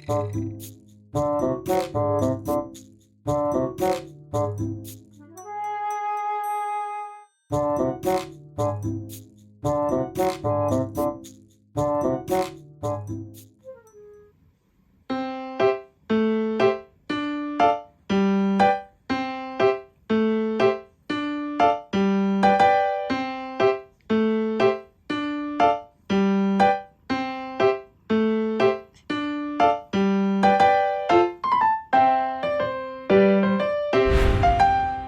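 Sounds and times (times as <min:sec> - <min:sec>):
bouncy piano tune: 0:00.0 - 0:06.8, 0:07.5 - 0:14.2, 0:15.1 - 0:34.0.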